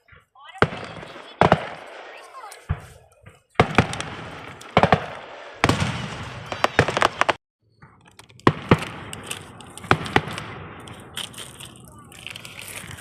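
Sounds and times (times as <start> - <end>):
fireworks cracking and banging: 0.1 - 13.0
fireworks crackling: 0.5 - 7.4, 8.3 - 13.0.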